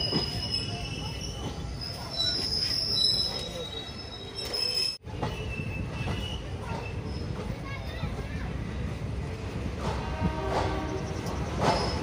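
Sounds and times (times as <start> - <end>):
train wheels squealing on rails: 0.0 - 8.2, 9.9 - 12.0
train rumbling: 0.0 - 12.0.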